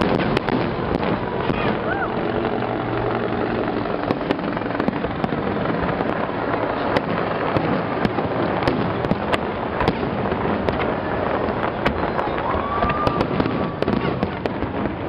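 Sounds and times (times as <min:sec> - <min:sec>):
fireworks bursting rumble: 0:00.0 - 0:15.0
sharp firework cracks: 0:00.0 - 0:15.0.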